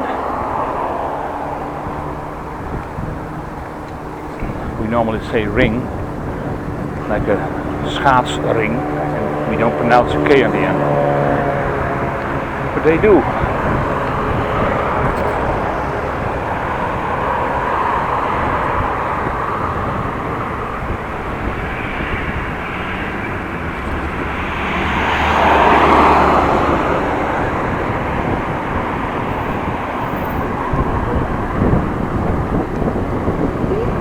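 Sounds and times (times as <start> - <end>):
passing vehicle engine hum: 0.0 - 34.0
road traffic: 0.0 - 34.0
wind noise: 0.0 - 34.0.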